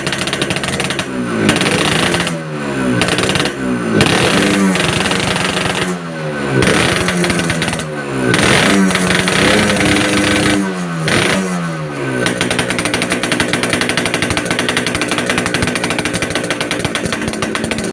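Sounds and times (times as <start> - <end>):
motorcycle engine revving and idling: 0.0 - 17.9.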